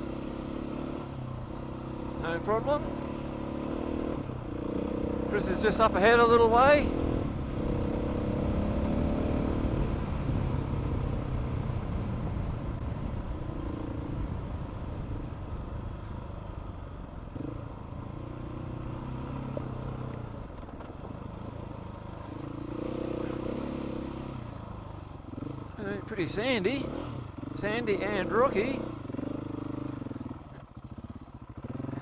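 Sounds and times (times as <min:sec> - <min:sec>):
motorcycle engine revving: 0:00.0 - 0:14.8, 0:17.2 - 0:32.0.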